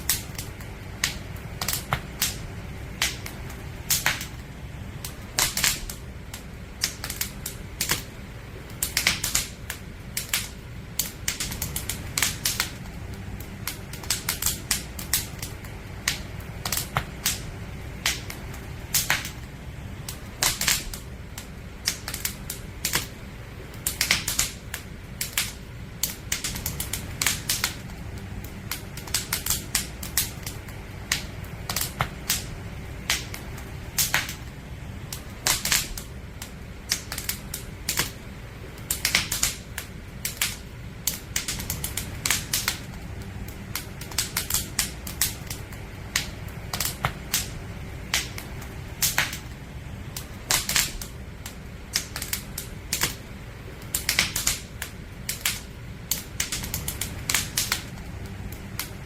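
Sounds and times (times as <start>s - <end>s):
campfire crackling: 0.0s - 59.0s
low steady rumble: 0.0s - 59.0s.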